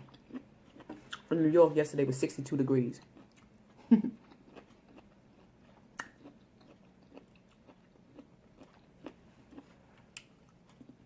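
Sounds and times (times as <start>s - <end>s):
chewing crab legs: 0.0s - 1.4s, 3.0s - 11.0s.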